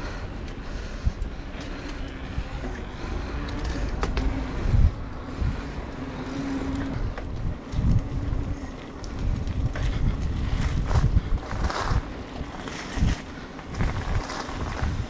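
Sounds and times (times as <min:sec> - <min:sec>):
bike tyres rolling: 0:00.0 - 0:15.0
wind rushing over microphone: 0:00.0 - 0:15.0.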